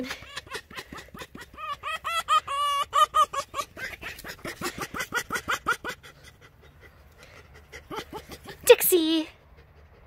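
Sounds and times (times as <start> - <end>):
fox whining: 0.0 - 8.8
fox chattering: 0.0 - 10.0.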